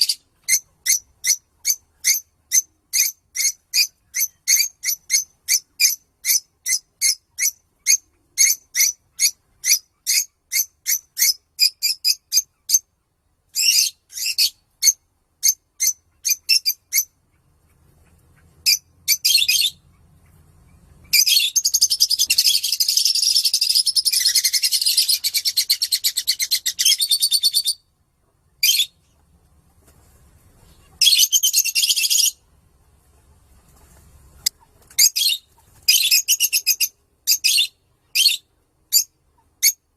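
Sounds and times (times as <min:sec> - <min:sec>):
lovebirds chirping and trilling: 0:00.0 - 0:39.9.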